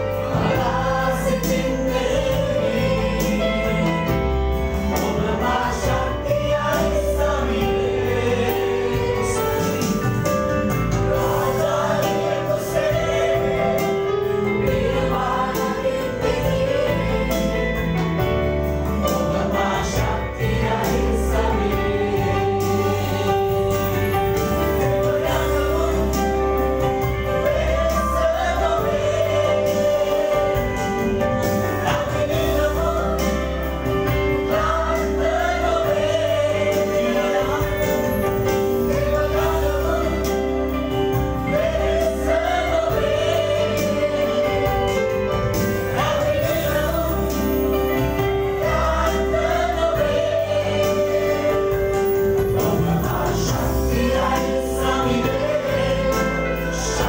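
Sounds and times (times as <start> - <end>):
acoustic guitar: 0.0 - 57.0
group singing in unison: 0.0 - 57.0.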